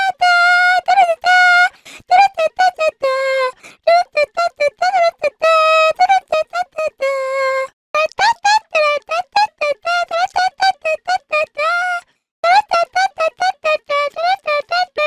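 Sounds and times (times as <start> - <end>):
high-pitched girl voice singing: 0.0 - 15.0.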